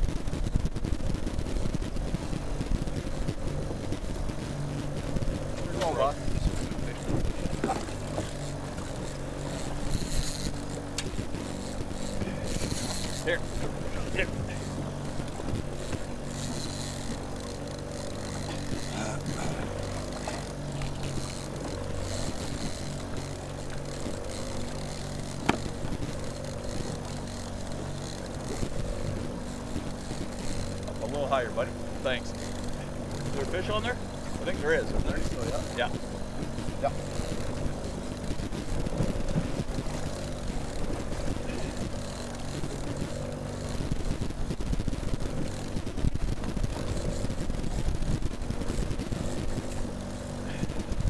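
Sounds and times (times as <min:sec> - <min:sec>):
boat engine humming: 0:00.0 - 0:51.0
wind and water hiss: 0:00.0 - 0:51.0.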